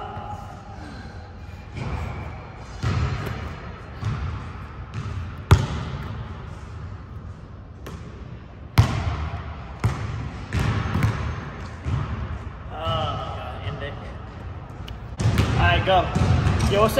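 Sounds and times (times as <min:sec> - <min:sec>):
basketball bouncing in a gym: 0:01.6 - 0:07.1, 0:07.7 - 0:13.4, 0:14.3 - 0:16.9.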